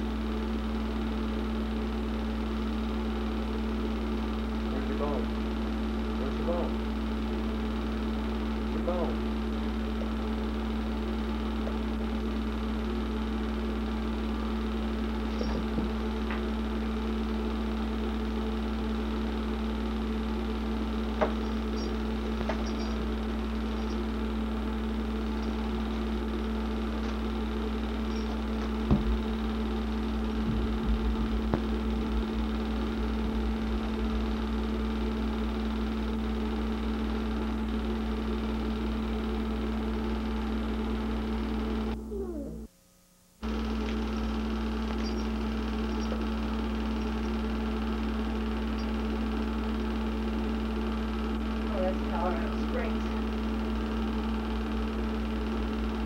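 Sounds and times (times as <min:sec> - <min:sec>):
film projector motor whirring: 0:00.0 - 0:42.7, 0:43.4 - 0:56.0.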